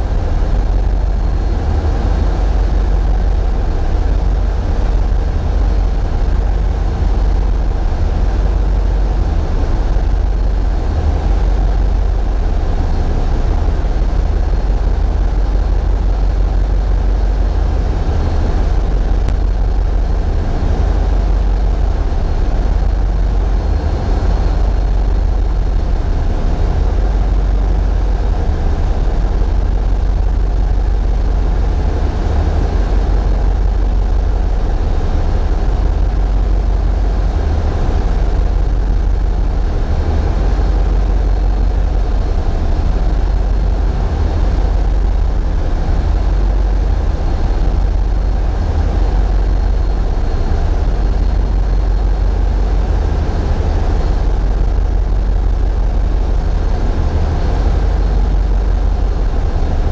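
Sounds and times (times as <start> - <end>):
diesel engines low drone: 0.0 - 59.9.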